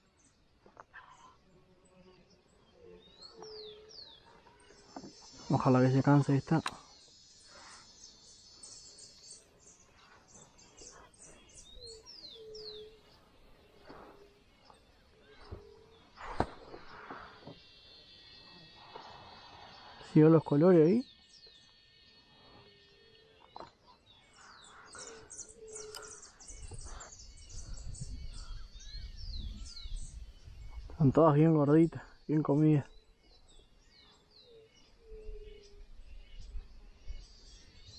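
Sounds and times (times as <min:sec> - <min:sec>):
faint birdsong: 0:00.0 - 0:37.9.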